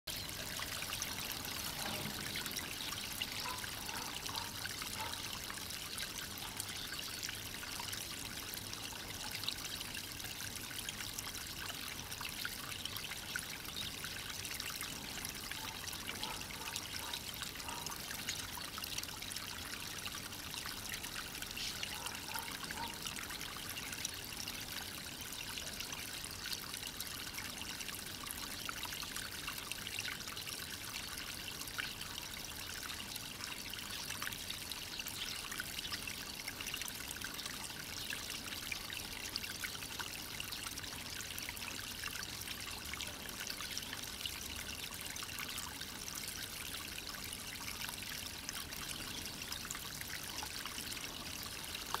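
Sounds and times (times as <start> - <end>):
shallow water trickling: 0.1 - 52.0.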